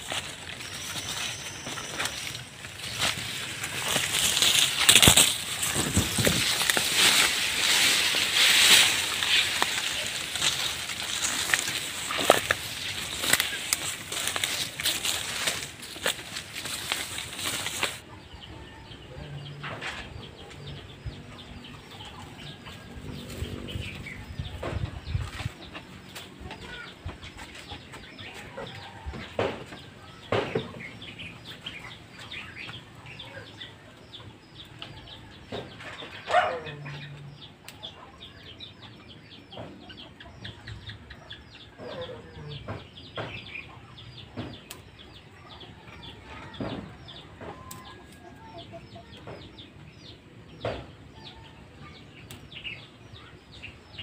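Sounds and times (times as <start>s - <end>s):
chickens clucking: 0.0s - 54.0s
small birds chirping: 0.0s - 54.0s.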